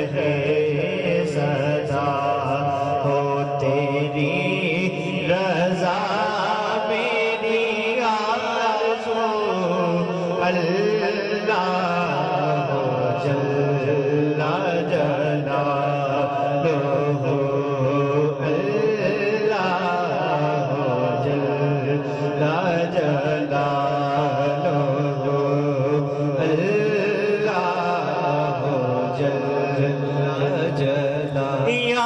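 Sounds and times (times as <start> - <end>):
man singing: 0.0 - 32.0.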